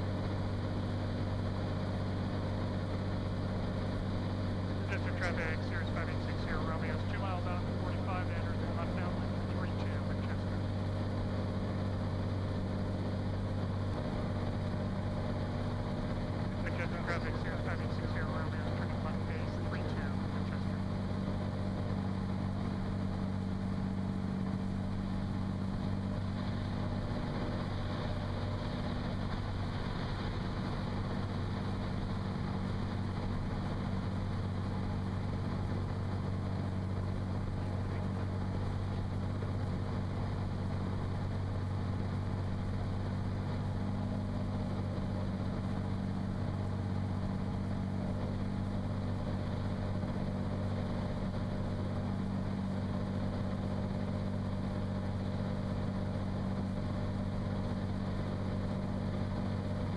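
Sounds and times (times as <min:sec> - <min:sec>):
propeller aircraft engine drone: 0:00.0 - 0:59.9.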